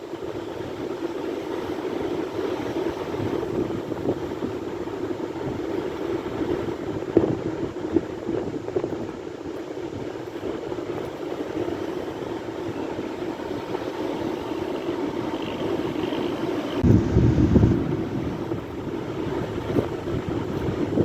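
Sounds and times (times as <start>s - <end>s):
sea surf waves breaking: 0.0s - 21.0s.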